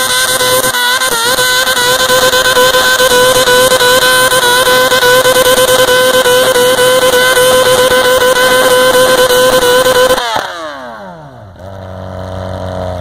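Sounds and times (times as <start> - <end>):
tractor engine running at high revs: 0.0 - 13.0.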